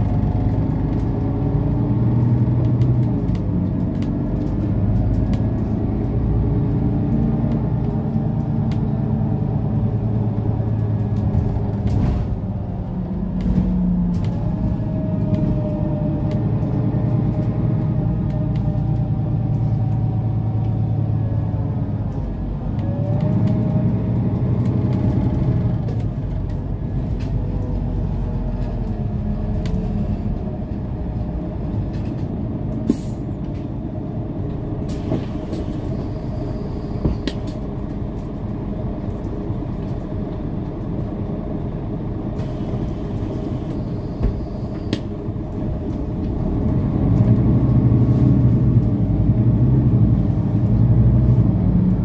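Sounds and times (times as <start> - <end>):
bus diesel engine drone: 0.0 - 52.0.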